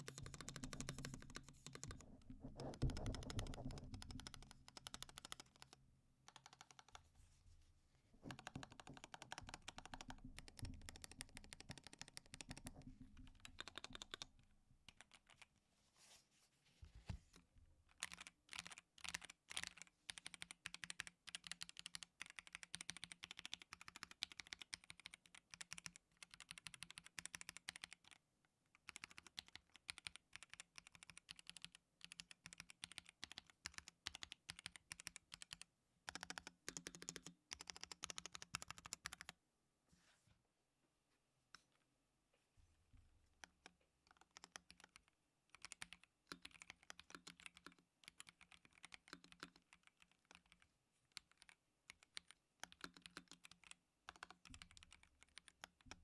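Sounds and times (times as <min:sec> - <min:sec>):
mechanical keyboard typing: 0:00.0 - 0:02.0, 0:02.6 - 0:07.0, 0:08.3 - 0:14.3, 0:14.9 - 0:15.5, 0:17.9 - 0:28.2, 0:28.8 - 0:39.4, 0:43.4 - 0:56.0.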